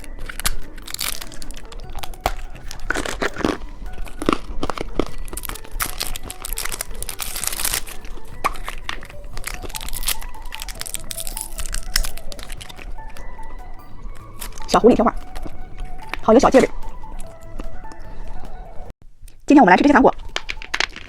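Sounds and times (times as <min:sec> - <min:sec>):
plastic candy wrapper crinkling: 0:00.0 - 0:18.6, 0:20.1 - 0:21.0.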